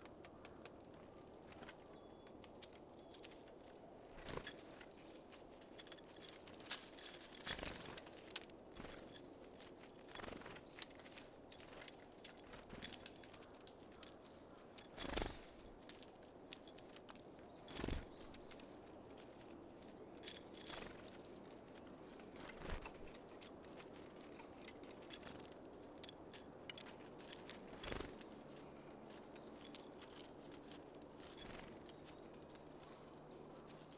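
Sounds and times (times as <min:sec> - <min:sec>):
birds fluttering and pecking: 0:00.0 - 0:33.9.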